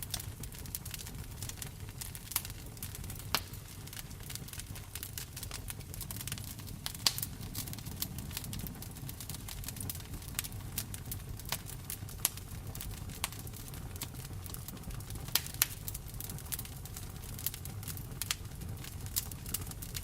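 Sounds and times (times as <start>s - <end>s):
fire pops and snaps: 0.0s - 20.0s
wood fire crackling: 0.0s - 20.0s.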